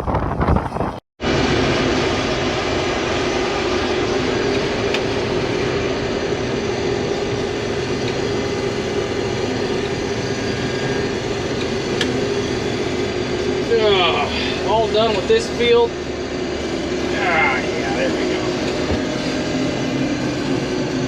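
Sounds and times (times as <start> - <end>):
combine harvester running: 1.2 - 21.0.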